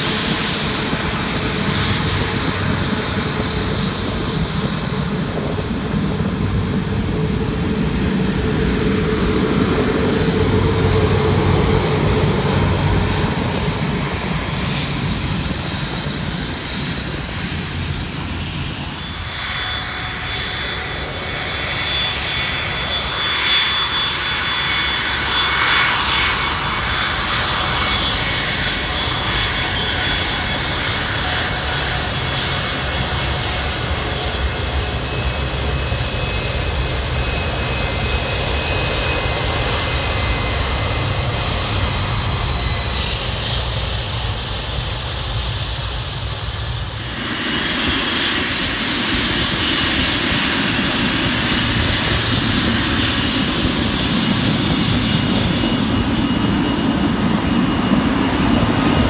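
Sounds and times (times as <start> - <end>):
jet engine high whine: 0.0 - 59.0
jet engine low hum: 0.0 - 59.0.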